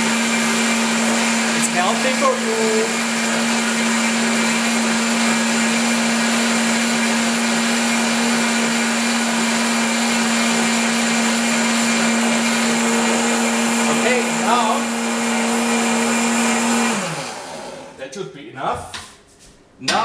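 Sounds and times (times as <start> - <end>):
blender running at high speed: 0.0 - 18.0.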